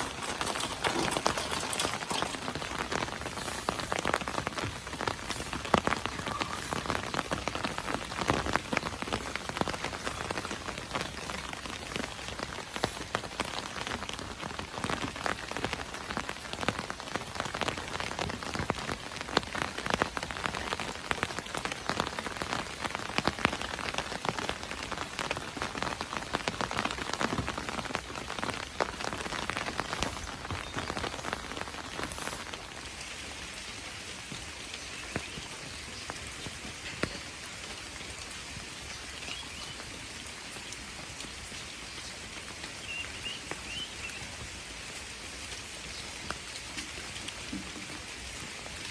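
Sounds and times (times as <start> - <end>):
raindrops ticking: 0.0 - 48.9
steady rain: 0.0 - 48.9.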